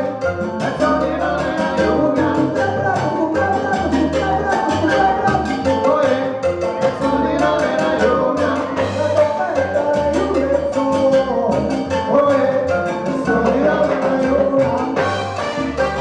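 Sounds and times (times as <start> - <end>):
live salsa band playing: 0.0 - 16.0.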